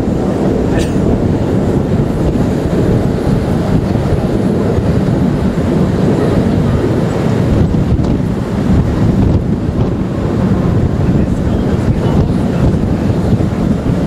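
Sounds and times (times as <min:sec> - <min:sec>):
train wheels rumbling: 0:00.0 - 0:14.0
wind on microphone: 0:00.0 - 0:14.0.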